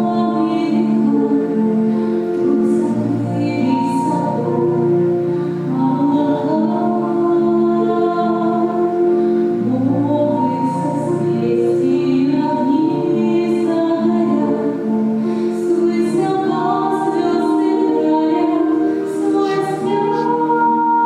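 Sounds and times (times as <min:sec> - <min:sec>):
voices singing together: 0:00.0 - 0:21.0.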